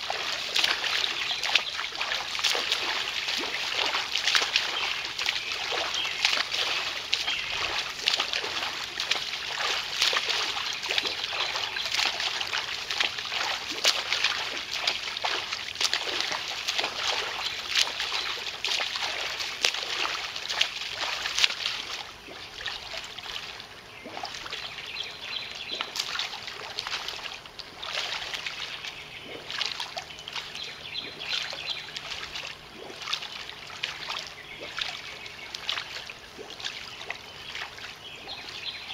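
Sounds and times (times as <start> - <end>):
water splashing from swimming: 0.0 - 38.9.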